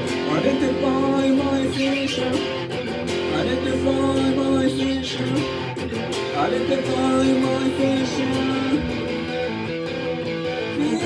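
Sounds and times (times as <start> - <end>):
man singing: 0.0 - 9.3, 10.4 - 11.0
electric guitar strummed chords: 0.0 - 11.0.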